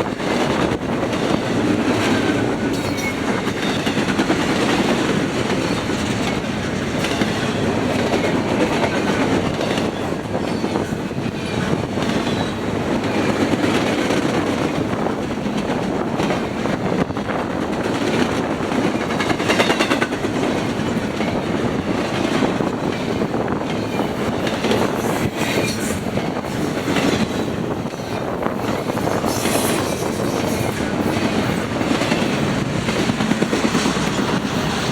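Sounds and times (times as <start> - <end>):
clickety-clack of rail joints: 0.0 - 34.9
train wheels rumbling on rail: 0.0 - 34.9.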